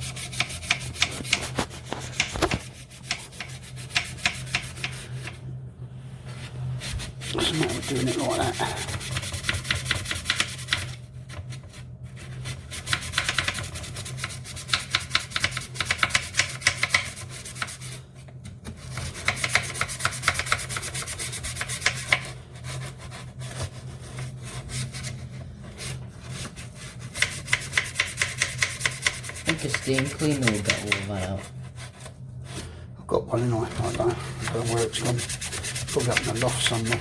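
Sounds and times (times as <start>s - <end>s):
toothbrush scrubbing plastic: 0.0s - 5.4s, 6.4s - 18.1s, 18.7s - 32.7s, 33.6s - 37.0s
steady low hum: 0.0s - 37.0s.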